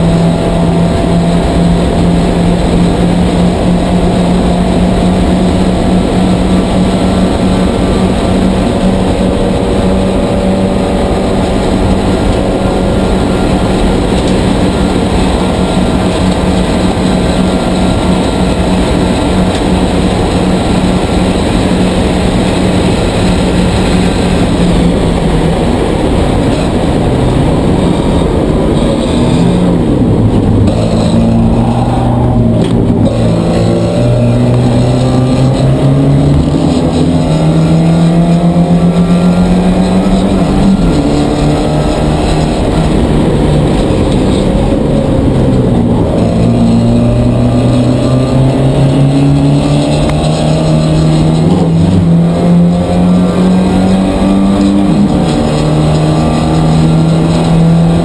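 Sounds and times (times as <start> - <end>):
race car engine at full throttle: 0.0 - 58.0
wind and road noise: 0.0 - 58.0.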